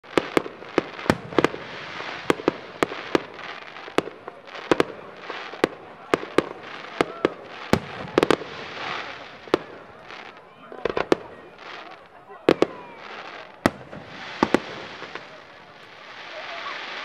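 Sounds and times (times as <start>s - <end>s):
fireworks crackling: 0.0s - 17.0s.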